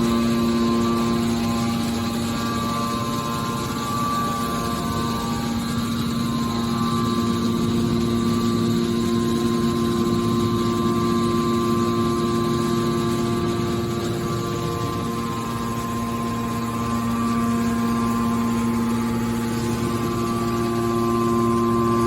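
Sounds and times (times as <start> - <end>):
hydraulic pump motor humming: 0.0 - 22.0.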